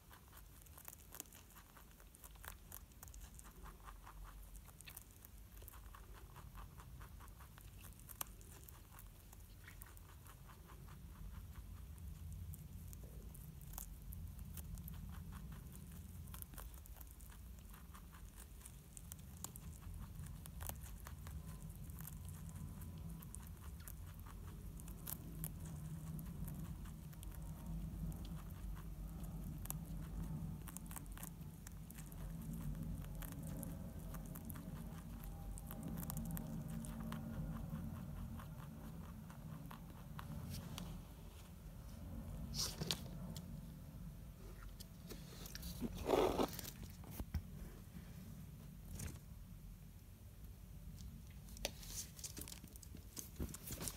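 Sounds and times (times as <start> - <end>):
rabbit chewing crunchy vegetable: 0.0 - 53.9
steady low hum: 0.0 - 53.9.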